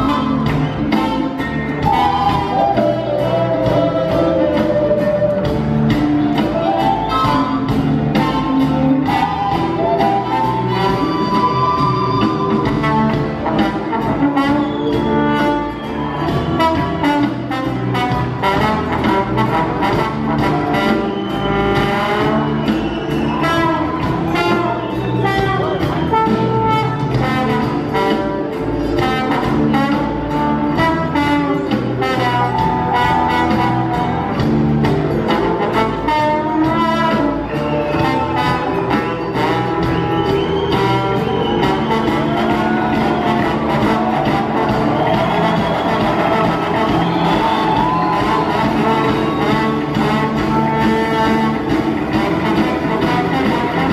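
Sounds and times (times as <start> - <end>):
bass: 0.0 - 53.9
drum kit: 0.0 - 53.9
guitar: 0.0 - 53.9
trumpet and trombone: 0.0 - 53.9.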